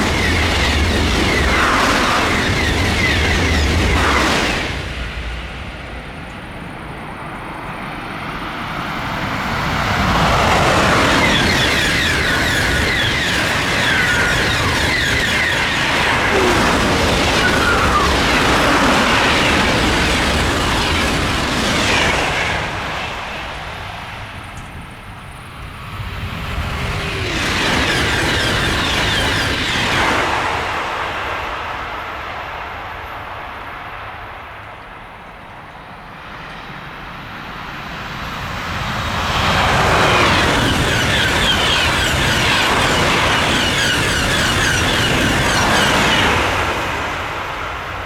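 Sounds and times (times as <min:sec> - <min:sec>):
high-speed train passing: 0:00.0 - 0:48.0.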